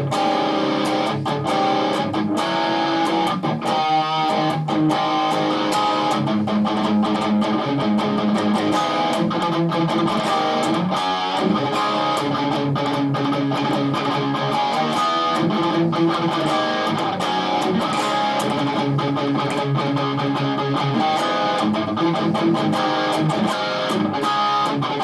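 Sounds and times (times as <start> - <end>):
overdriven electric guitar riffs: 0.0 - 25.0.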